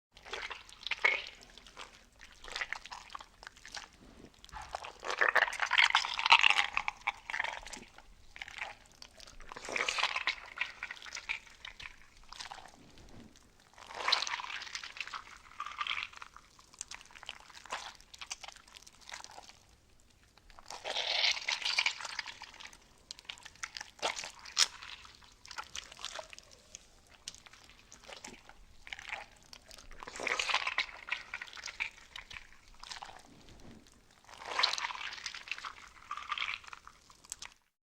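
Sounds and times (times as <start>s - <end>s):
crisp crunching and crackling: 0.2s - 19.8s, 20.4s - 37.7s.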